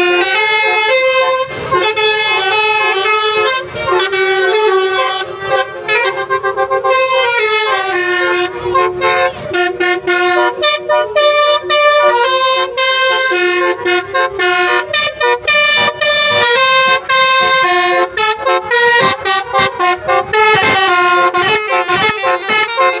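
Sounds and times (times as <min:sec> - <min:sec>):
multi-tone horn playing a tune: 0:00.0 - 0:23.0.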